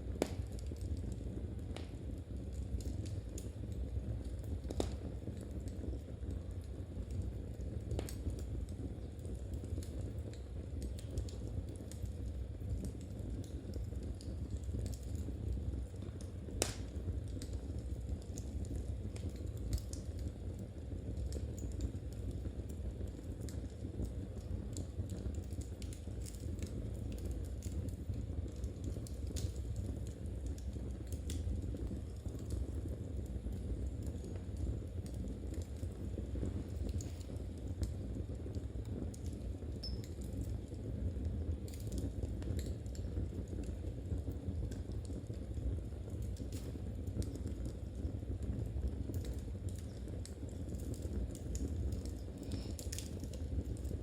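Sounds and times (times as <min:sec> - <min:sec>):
low steady rumble: 0:00.0 - 0:54.0
wood fire crackling: 0:00.0 - 0:54.0.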